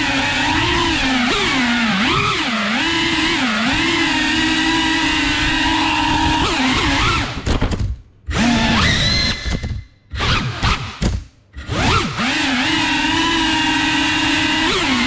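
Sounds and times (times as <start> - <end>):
drone motors whining: 0.0 - 7.5, 8.3 - 11.0, 11.6 - 15.0.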